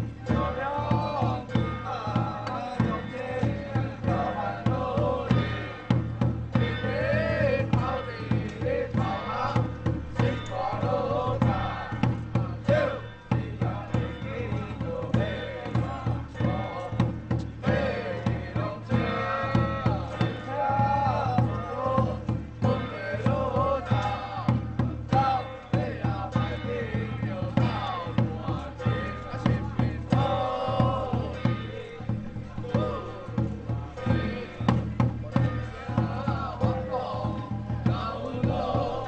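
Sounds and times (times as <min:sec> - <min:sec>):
drum and percussion beats: 0:00.0 - 0:39.0.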